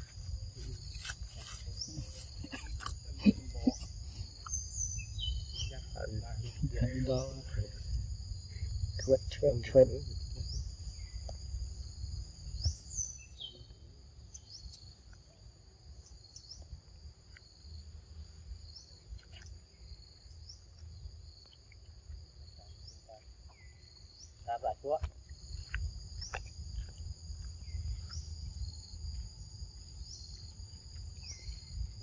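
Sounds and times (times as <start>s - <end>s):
insect chorus high tones: 0.0s - 32.0s
short insect calls: 0.0s - 32.0s.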